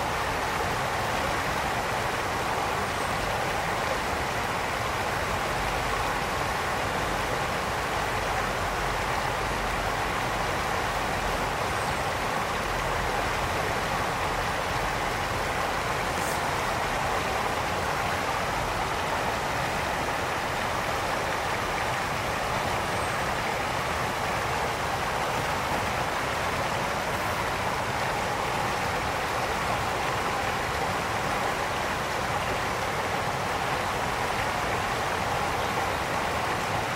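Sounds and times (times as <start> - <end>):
brook water rushing over stones: 0.0 - 36.9.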